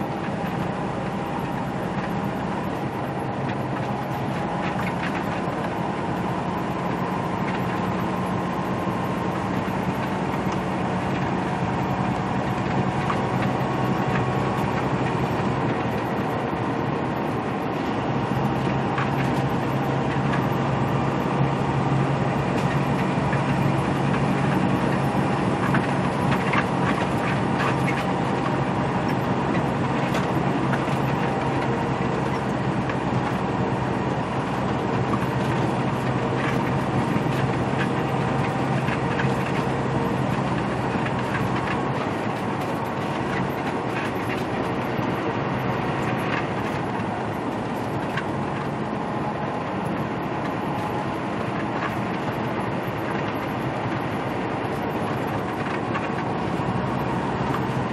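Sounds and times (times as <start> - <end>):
truck engine droning: 0.0 - 57.9
tyre and road noise: 0.0 - 57.9.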